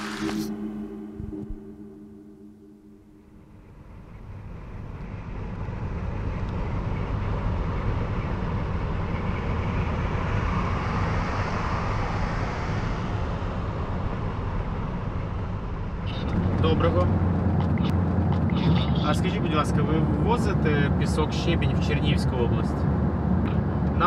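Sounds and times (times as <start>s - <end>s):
car engine and tyre rumble: 3.5s - 24.0s
road and wind noise hiss: 3.8s - 24.0s.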